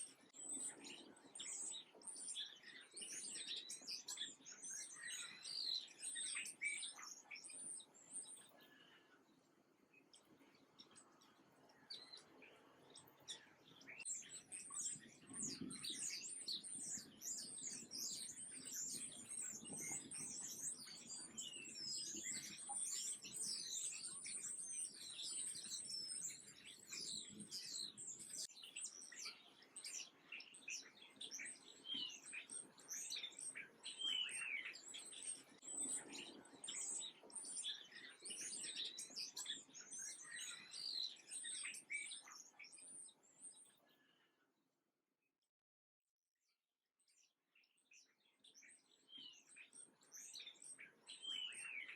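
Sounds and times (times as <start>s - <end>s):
small birds chirping: 0.0s - 44.6s, 47.0s - 51.9s.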